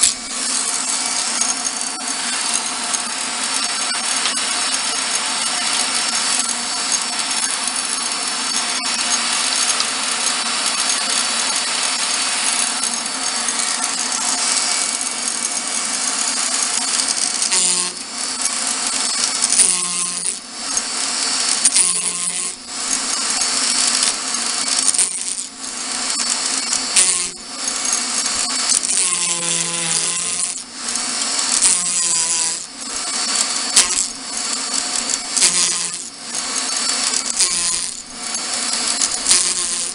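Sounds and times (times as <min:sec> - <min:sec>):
rotary tool grinding wood: 0:00.0 - 0:39.9
rotary tool motor whine: 0:00.0 - 0:39.9.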